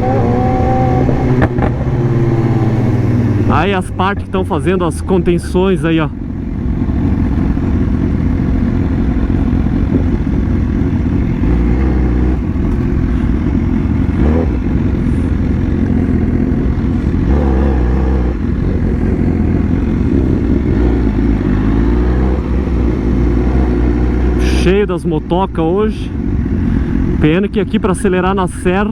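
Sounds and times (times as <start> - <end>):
motorcycle engine revving: 0.0 - 28.8.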